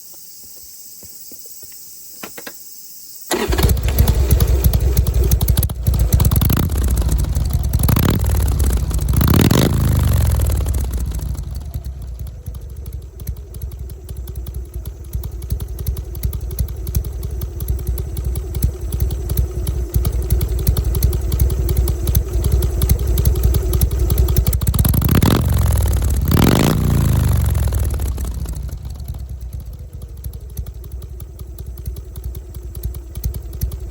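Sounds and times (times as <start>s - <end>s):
motorcycle engine lumpy idle: 3.3s - 33.9s
motorcycle throttle blips: 3.3s - 33.9s.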